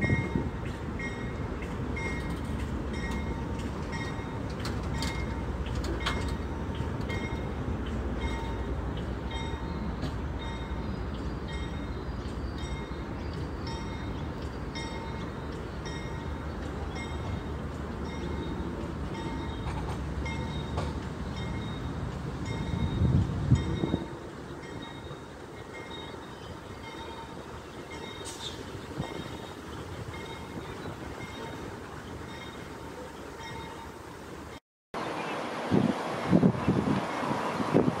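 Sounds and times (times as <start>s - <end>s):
train wheels rumbling on rail: 0.0s - 34.6s.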